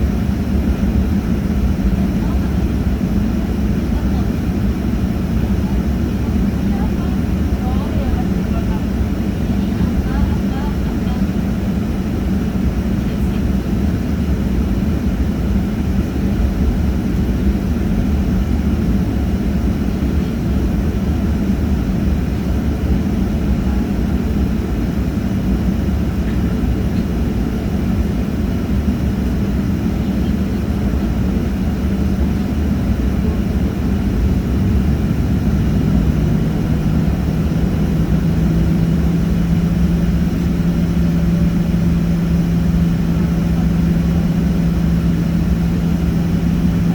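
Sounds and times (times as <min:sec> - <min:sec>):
airliner engine drone: 0:00.0 - 0:46.9.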